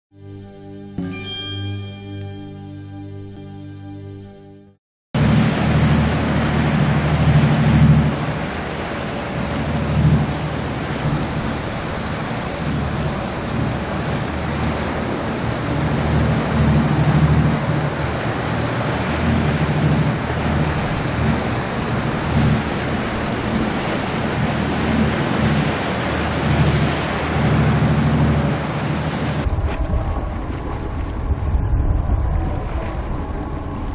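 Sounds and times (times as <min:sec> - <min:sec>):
motorboat engine drone: 0:03.0 - 0:33.9
sea water splashing: 0:05.2 - 0:33.9
wind buffeting microphone: 0:05.2 - 0:33.9.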